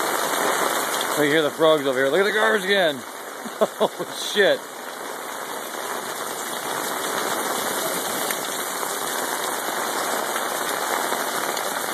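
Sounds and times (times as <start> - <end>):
heavy rain falling: 0.0 - 11.9.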